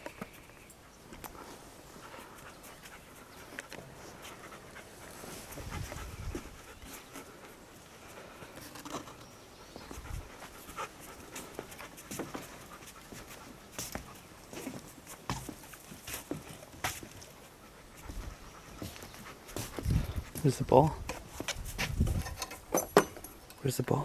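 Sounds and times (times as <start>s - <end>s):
dog panting: 0.3s - 22.2s.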